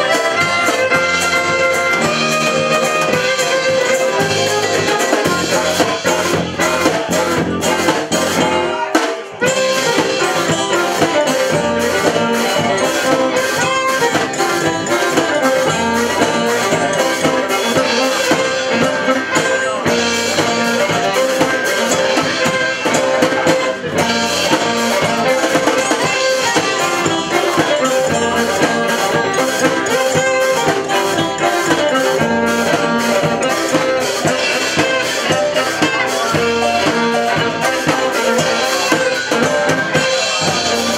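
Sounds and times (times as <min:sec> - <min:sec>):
acoustic guitar: 0:00.0 - 0:40.9
banjo: 0:00.0 - 0:40.9
bass: 0:00.0 - 0:40.9
drums: 0:00.0 - 0:40.9
fiddle: 0:00.0 - 0:40.9.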